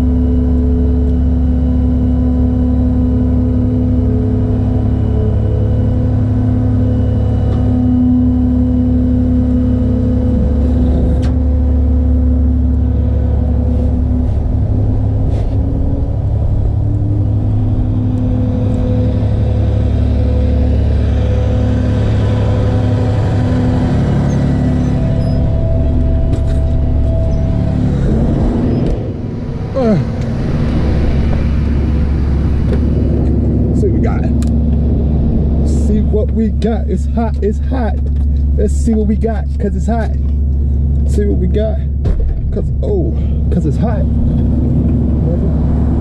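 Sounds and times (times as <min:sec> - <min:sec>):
truck engine droning: 0:00.0 - 0:46.0.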